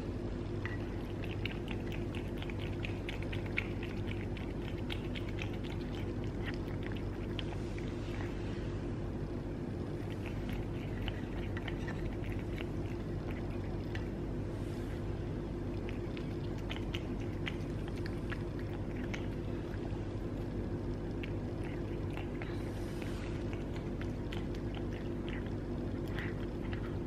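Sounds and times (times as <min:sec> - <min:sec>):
cat chewing and licking food: 0:00.0 - 0:27.0
steady low hum: 0:00.0 - 0:27.0.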